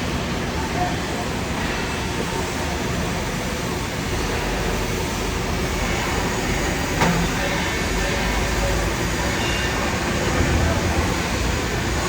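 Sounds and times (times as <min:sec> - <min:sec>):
welding hiss and rumble: 0:00.0 - 0:12.0
workshop noise: 0:00.0 - 0:12.0.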